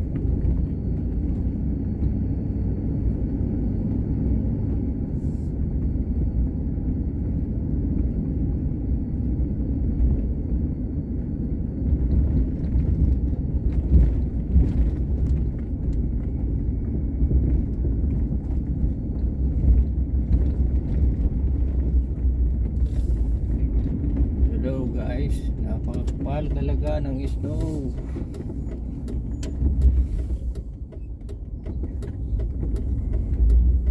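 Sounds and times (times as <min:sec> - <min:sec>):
car interior engine and tyre rumble: 0:00.0 - 0:33.9.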